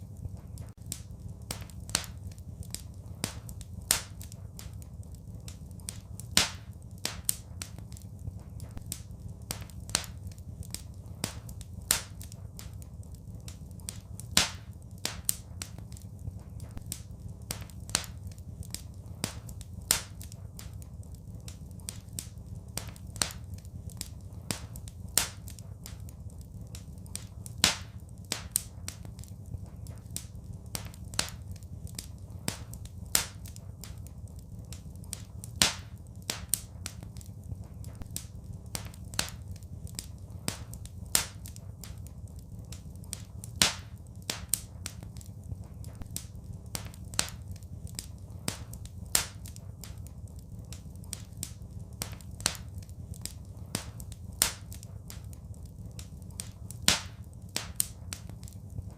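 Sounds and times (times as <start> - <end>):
low rumble of burning fire: 0.0 - 58.9
wood fire crackling: 0.0 - 58.9.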